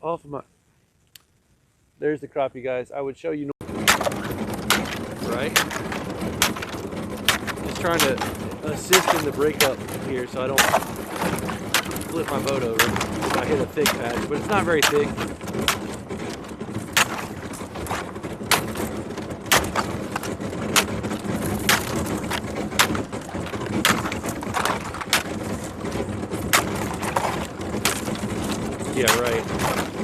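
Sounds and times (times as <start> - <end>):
steady noise: 3.6 - 30.0
ice cracking and breaking: 3.8 - 30.0.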